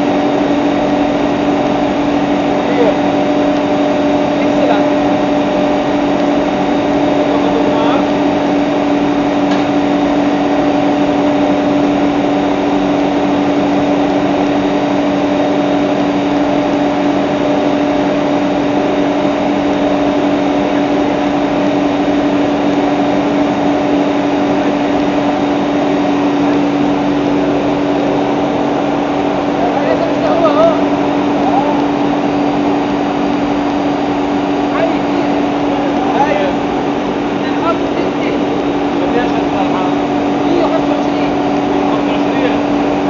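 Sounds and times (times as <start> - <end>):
mill grinding with loud hum: 0.0 - 43.0.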